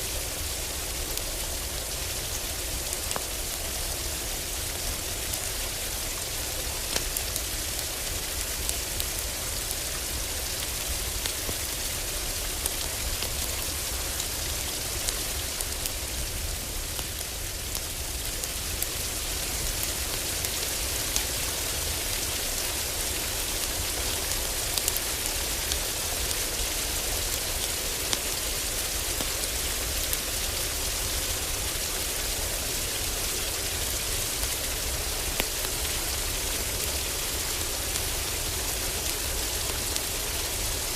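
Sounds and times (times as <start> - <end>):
heavy rain on a roof: 0.0 - 40.9
wood fire crackling: 2.6 - 40.9.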